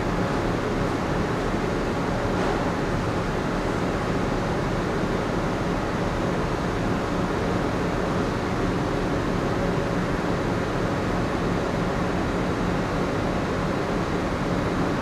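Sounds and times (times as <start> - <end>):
ventilation running: 0.0 - 15.0.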